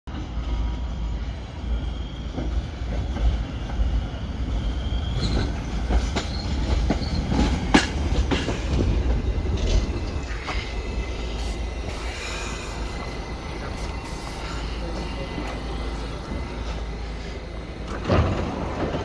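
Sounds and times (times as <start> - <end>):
subway train rumbling: 0.0 - 19.0
faint wheel squeal: 1.1 - 19.0
wheels clicking over rail joints: 2.3 - 19.0.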